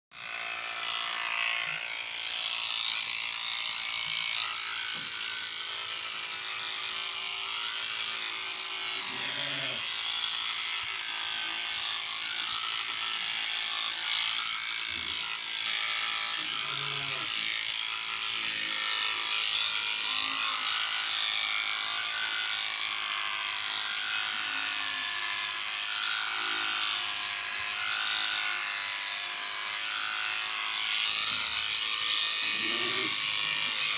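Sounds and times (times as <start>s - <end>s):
electric shearing machine running: 0.1s - 33.9s
cutters clipping through wool: 0.2s - 33.9s.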